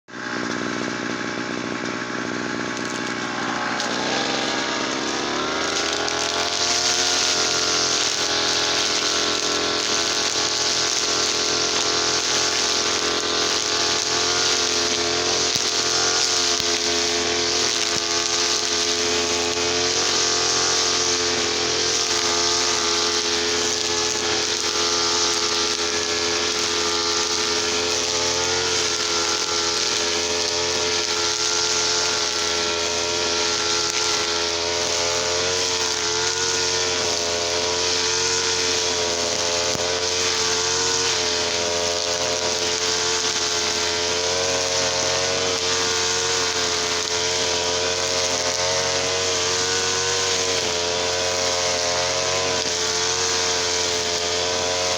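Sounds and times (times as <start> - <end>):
small two-stroke engine running: 0.0 - 54.9.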